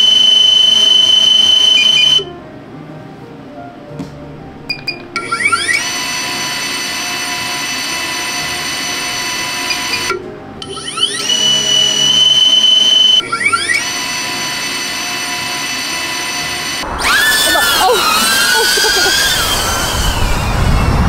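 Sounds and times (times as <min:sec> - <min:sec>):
drone motors spinning up: 0:00.0 - 0:02.2, 0:05.2 - 0:21.0.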